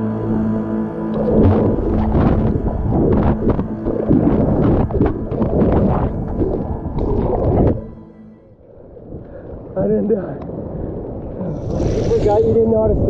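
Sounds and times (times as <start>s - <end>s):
water hitting camera rumble: 1.1s - 7.9s, 9.0s - 13.0s.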